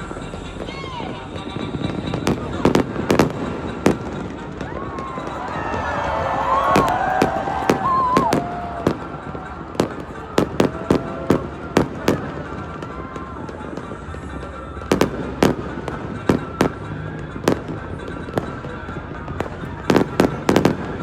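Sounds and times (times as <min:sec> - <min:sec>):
crowd noise: 0:00.0 - 0:21.0
faint music: 0:00.0 - 0:21.0
fireworks exploding: 0:00.0 - 0:21.0.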